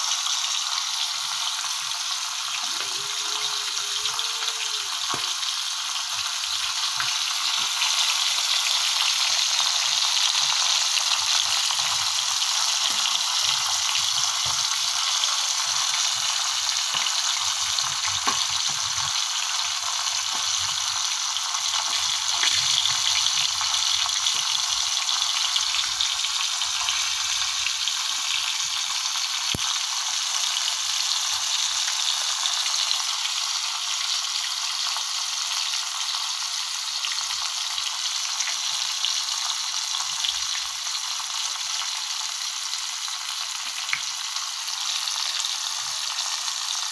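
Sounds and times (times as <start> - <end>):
fish sizzling in hot oil: 0.0 - 46.9.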